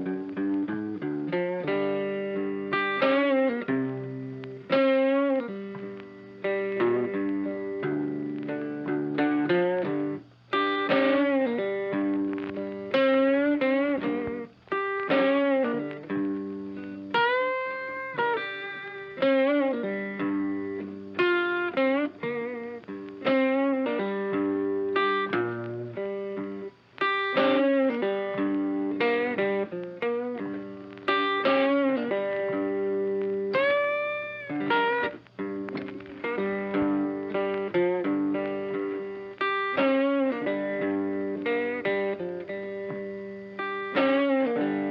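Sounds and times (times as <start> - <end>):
blues music with electric guitar: 0.0 - 44.9.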